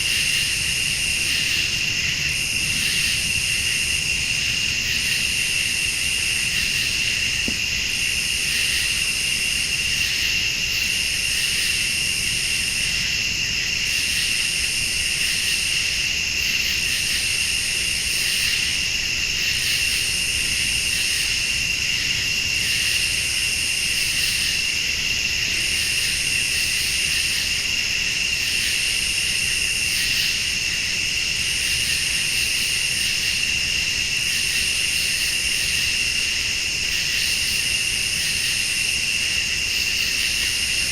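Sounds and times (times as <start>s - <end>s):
crickets trilling: 0.0s - 40.9s
high-pitched insect chorus: 0.0s - 40.9s.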